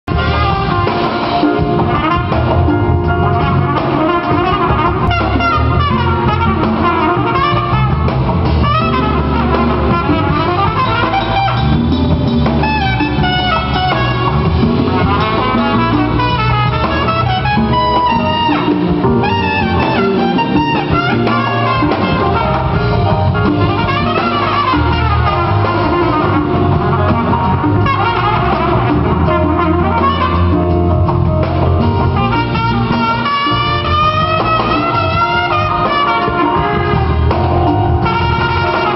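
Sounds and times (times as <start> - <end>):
drum kit: 0.0 - 38.9
electric bass: 0.0 - 38.9
trumpet playing fast notes: 0.1 - 38.9.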